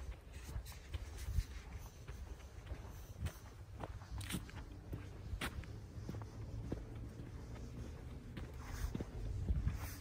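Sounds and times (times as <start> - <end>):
soft footsteps on trail: 0.0 - 10.0
steady low rumble: 0.0 - 10.0.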